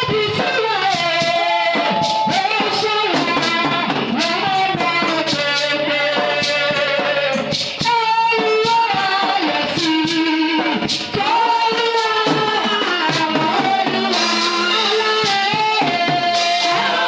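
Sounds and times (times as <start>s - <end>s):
instrumental backing with percussion: 0.0s - 17.0s
woman singing gospel song: 0.0s - 17.0s.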